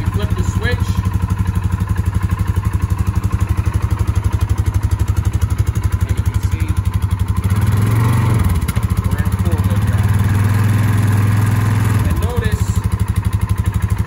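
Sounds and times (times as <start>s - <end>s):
engine idling and revving: 0.0s - 14.0s.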